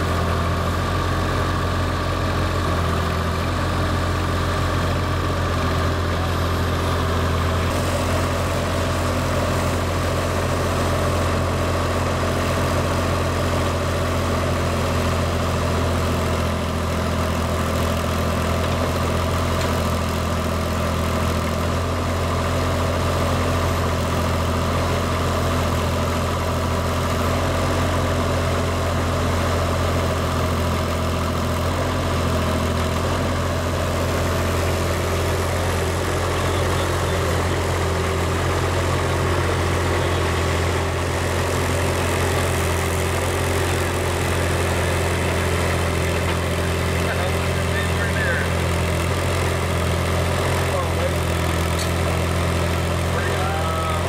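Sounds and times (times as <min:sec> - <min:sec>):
backhoe digging: 0:00.0 - 0:54.0
diesel engine running: 0:00.0 - 0:54.0.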